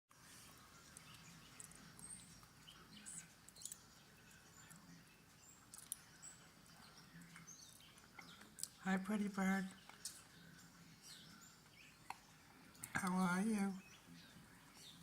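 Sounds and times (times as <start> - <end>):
bird chirps and ticks: 0.2 - 15.0.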